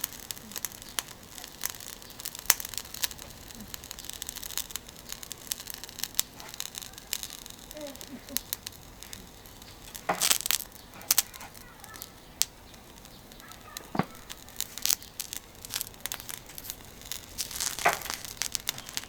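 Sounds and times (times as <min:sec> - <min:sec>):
charcoal grill crackling and popping: 0:00.0 - 0:19.0.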